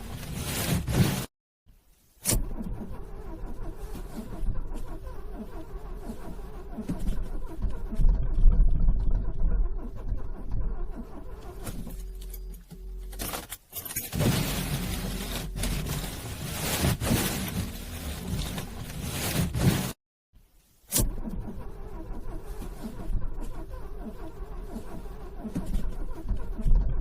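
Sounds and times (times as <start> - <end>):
car engine cranking: 2.2 - 20.0, 20.9 - 27.0.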